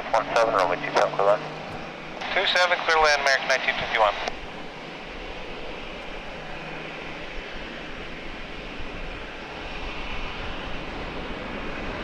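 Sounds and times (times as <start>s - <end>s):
jet engines rushing: 0.0s - 12.0s
wind on microphone: 0.0s - 12.0s.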